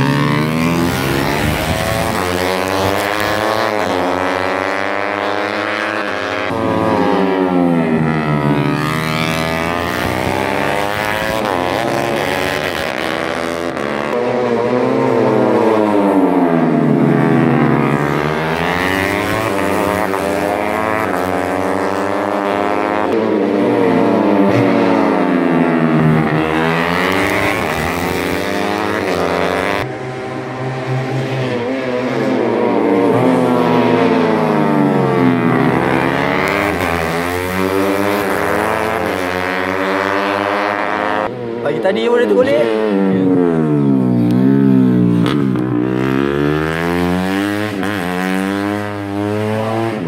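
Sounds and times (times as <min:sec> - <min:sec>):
motorcycles racing through corner: 0:00.0 - 0:50.0.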